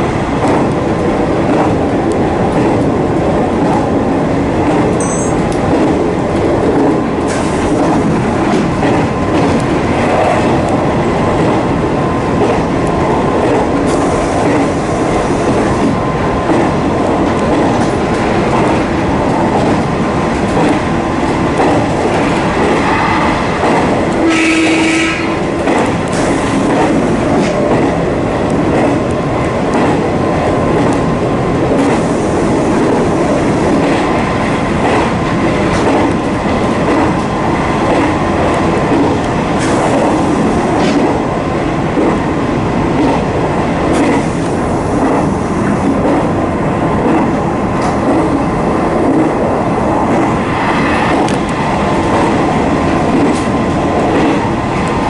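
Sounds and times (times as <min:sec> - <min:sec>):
train motor and wheel noise: 0:00.0 - 0:55.0.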